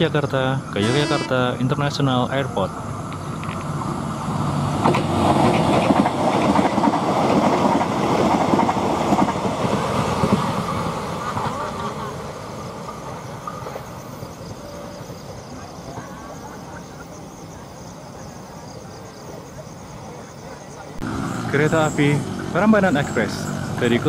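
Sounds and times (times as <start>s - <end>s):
train running past on track: 0.0s - 24.0s.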